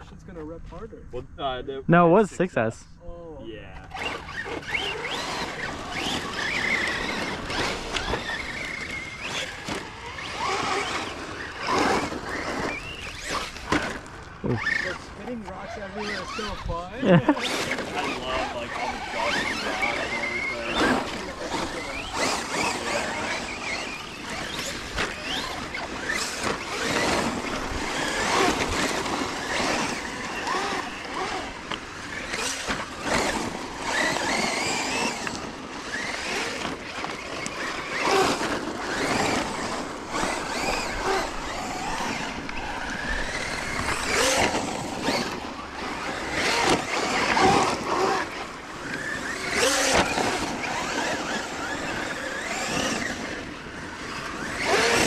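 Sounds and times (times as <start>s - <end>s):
rc truck motor whine: 3.8s - 55.0s.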